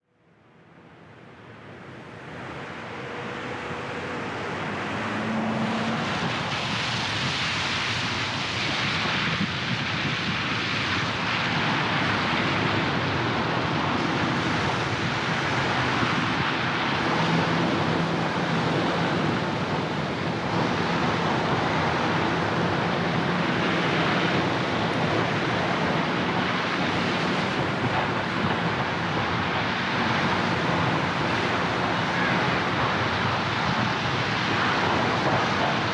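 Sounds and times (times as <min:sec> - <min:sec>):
low engine hum: 0:00.9 - 0:08.5, 0:09.4 - 0:35.9
tyres hissing on wet road: 0:02.1 - 0:35.9.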